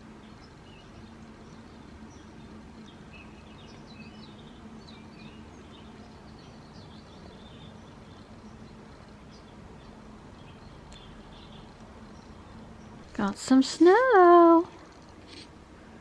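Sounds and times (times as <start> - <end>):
small birds chirping: 0.0 - 15.5
steady low hum: 0.0 - 16.0.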